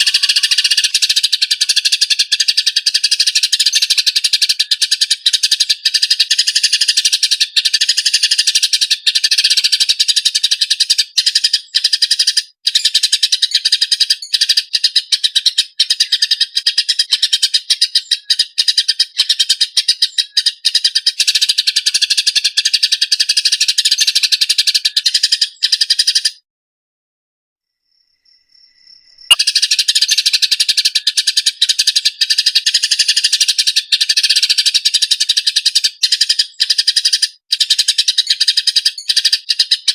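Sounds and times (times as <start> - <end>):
songbird trilling and chirping: 0.0 - 26.4, 29.1 - 39.9.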